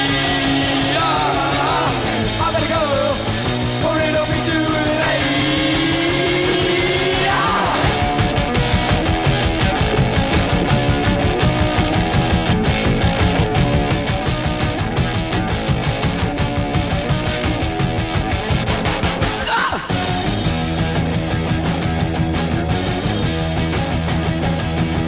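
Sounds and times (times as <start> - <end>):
driving drum beat: 0.0 - 25.0
rock music with bending melody: 0.0 - 25.0.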